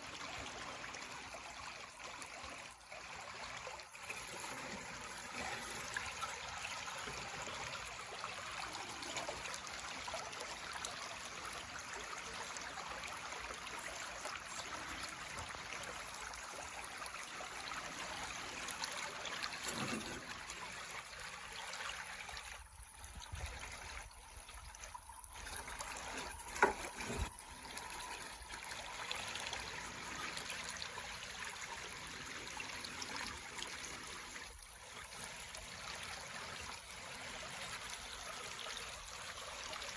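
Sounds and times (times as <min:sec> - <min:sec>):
trickling stream water: 0:00.0 - 0:39.9.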